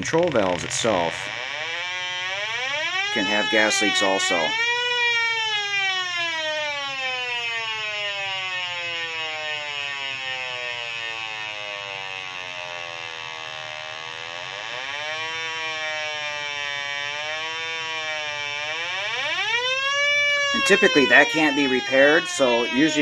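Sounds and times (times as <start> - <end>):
gas detector whining tone: 0.0 - 23.0.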